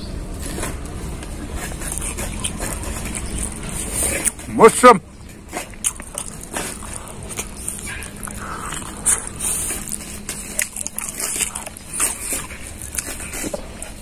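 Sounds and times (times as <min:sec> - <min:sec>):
man chewing food: 0:00.1 - 0:14.0
wet lip smacks and mouth clicks: 0:00.8 - 0:04.4, 0:05.5 - 0:14.0.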